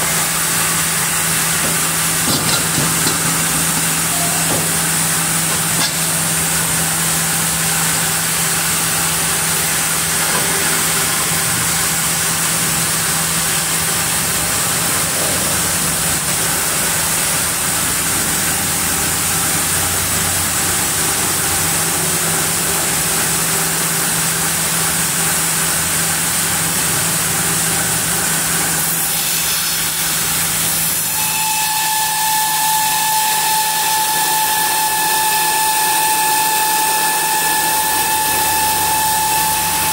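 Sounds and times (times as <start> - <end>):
high steady whine: 0.0 - 24.3, 31.7 - 39.9
sawmill machinery hum and hiss: 0.0 - 39.9.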